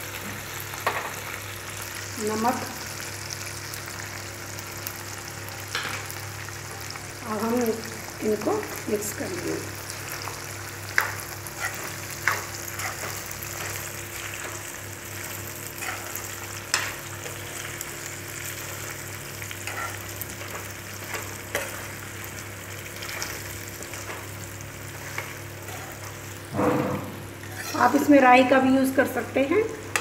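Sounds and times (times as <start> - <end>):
oil sizzling in pan: 0.0 - 30.0.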